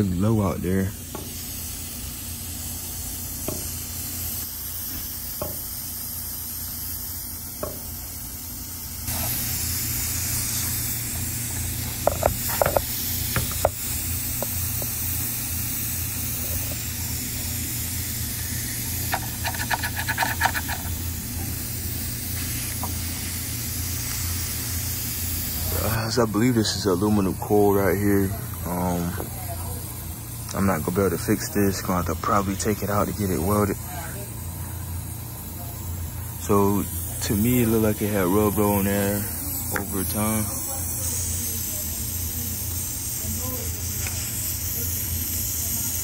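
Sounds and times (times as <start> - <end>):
refrigerant hissing from leak: 0.0 - 7.8, 8.5 - 46.0.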